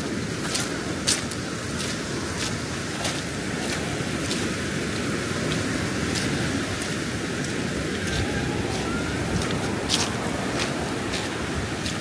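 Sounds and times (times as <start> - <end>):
ocean surf: 0.0 - 12.0
wind: 0.0 - 12.0.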